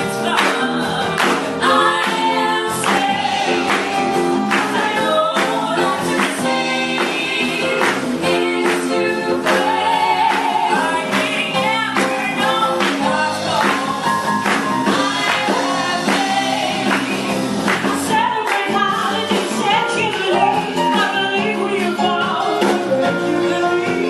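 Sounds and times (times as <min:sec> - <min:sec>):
woman singing into microphone: 0:00.0 - 0:24.0.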